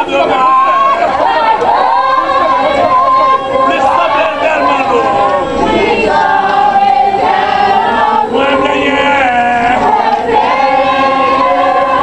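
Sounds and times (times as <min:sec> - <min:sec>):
congregation chanting: 0:00.0 - 0:12.0.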